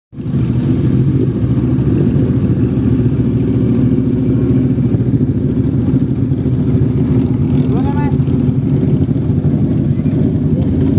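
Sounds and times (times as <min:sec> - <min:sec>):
motorcycle engine idling: 0:00.2 - 0:10.9.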